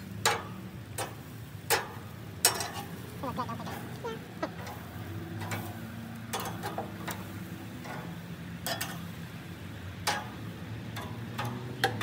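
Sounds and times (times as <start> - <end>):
metal tongs clicking on grill: 0.2 - 3.1, 3.7 - 12.0.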